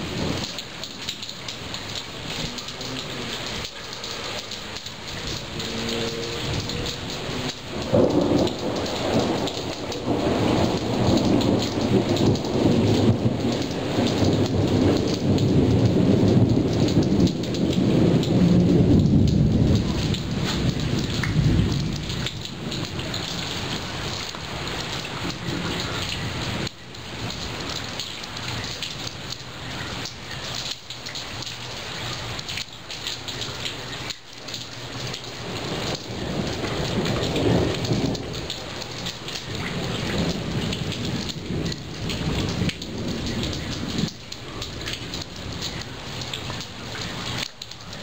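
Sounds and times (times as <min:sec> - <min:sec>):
heavy rain: 0:00.0 - 0:48.0
thunder rumbling: 0:00.0 - 0:48.0.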